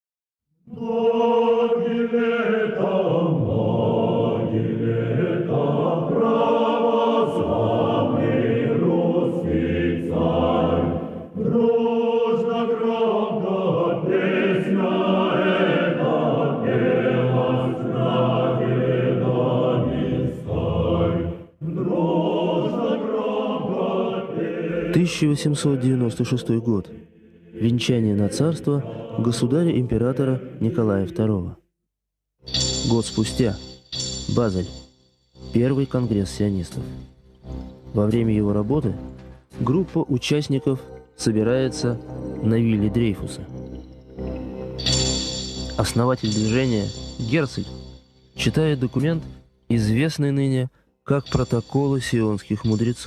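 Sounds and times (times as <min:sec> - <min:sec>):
choir singing sustained chords: 0:00.6 - 0:31.5, 0:35.4 - 0:49.8.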